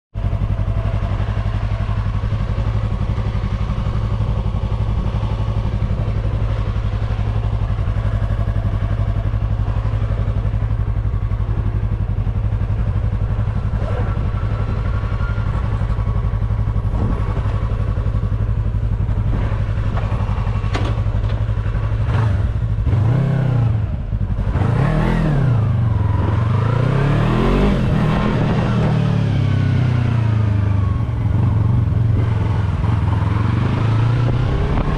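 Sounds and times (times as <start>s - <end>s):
motorcycle engine idling and revving: 0.1s - 34.9s.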